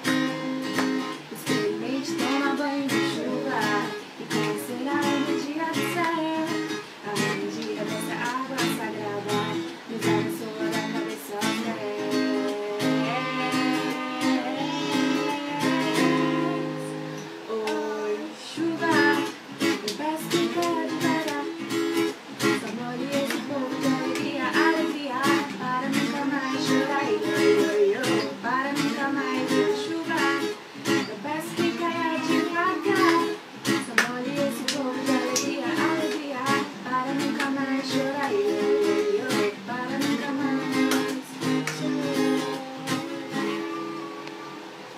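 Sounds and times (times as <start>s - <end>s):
strummed acoustic guitar: 0.0s - 44.9s
girls singing together: 1.2s - 44.4s.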